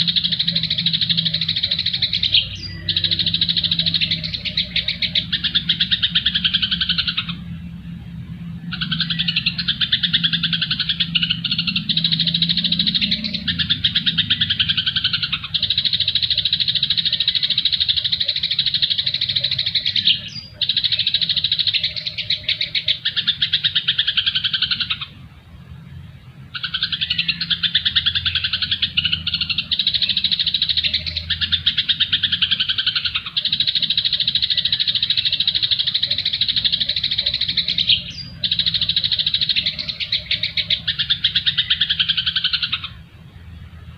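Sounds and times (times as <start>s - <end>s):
songbird chattering: 0.0s - 25.4s, 26.0s - 43.9s.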